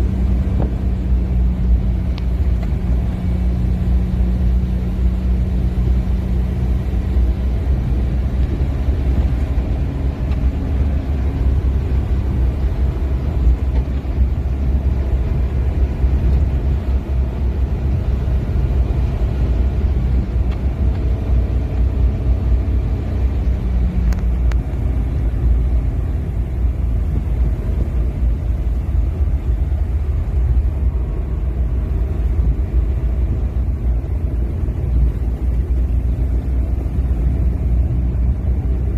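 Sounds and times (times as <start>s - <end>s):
low rumble: 0.0s - 38.9s.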